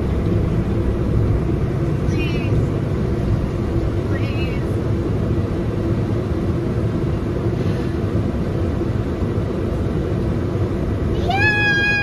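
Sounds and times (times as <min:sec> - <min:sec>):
tractor engine rumble: 0:00.0 - 0:12.0.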